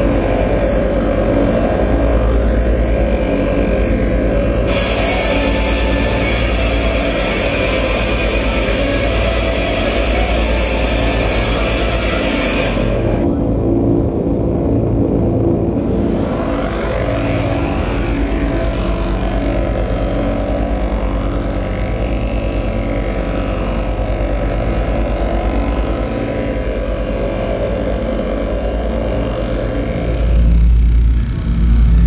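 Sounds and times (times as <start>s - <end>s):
deep rumble: 0.0s - 32.0s
low electronic hum: 0.0s - 32.0s
sustained electronic tones: 0.0s - 32.0s
sweeping pitch glides: 0.0s - 32.0s.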